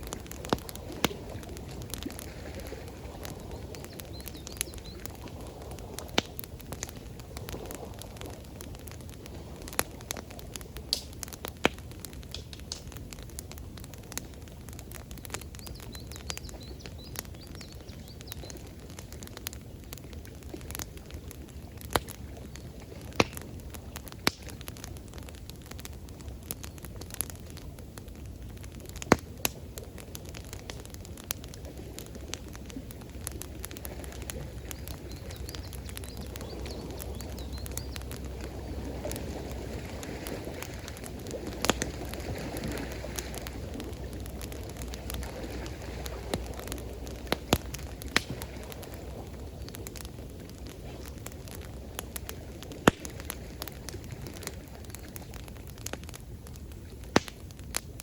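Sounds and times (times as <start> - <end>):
campfire crackling and popping: 0.0 - 58.0
flowing water: 0.0 - 58.0.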